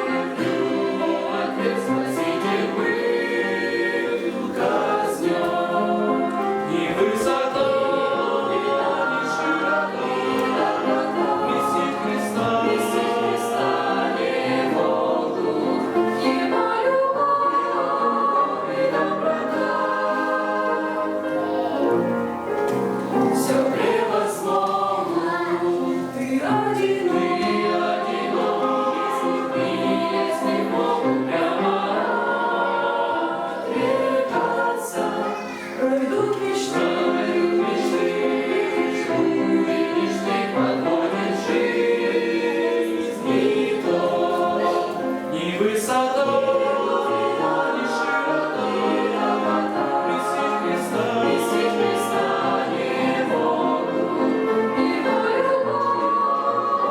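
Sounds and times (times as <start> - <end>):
choir singing in harmony: 0.0 - 56.9.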